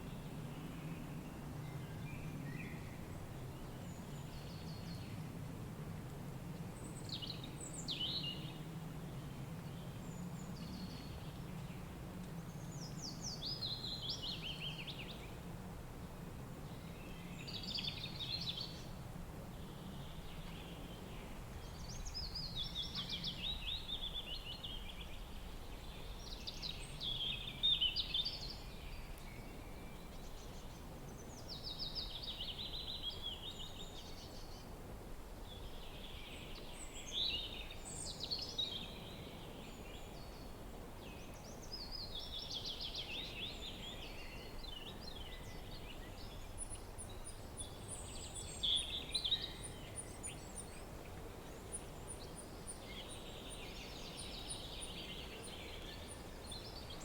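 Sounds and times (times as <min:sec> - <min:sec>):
songbirds singing: 0:06.8 - 0:15.4, 0:16.6 - 0:34.8, 0:35.4 - 0:57.0.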